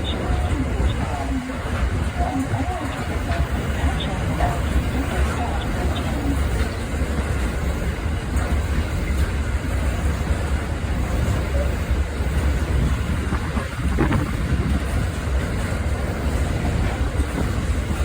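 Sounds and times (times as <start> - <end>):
train rumbling: 0.0 - 18.0
wind buffeting microphone: 0.0 - 18.0.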